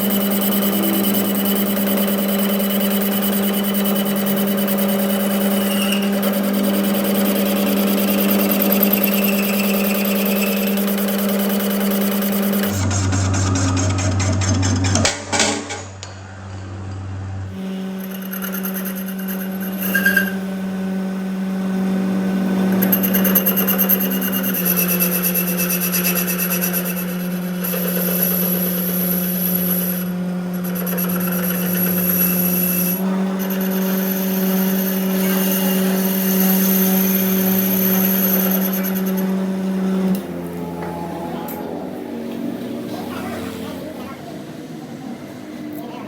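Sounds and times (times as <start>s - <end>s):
power tool grinding metal: 0.0s - 15.8s, 17.5s - 46.0s.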